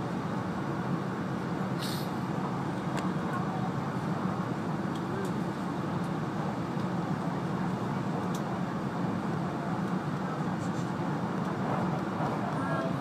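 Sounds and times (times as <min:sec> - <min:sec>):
train rumble inside passenger car: 0:00.0 - 0:13.0.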